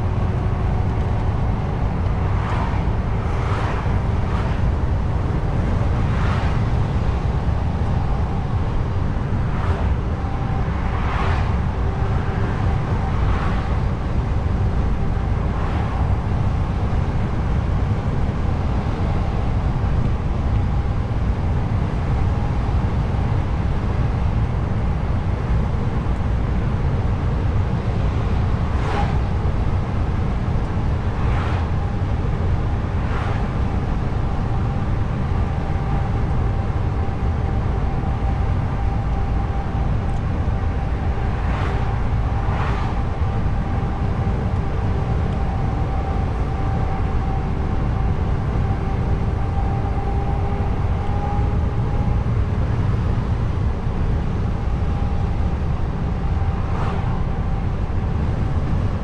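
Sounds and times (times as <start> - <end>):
faint steady whine: 0.0 - 59.0
road noise: 0.0 - 59.0
truck engine rumble: 0.0 - 59.0.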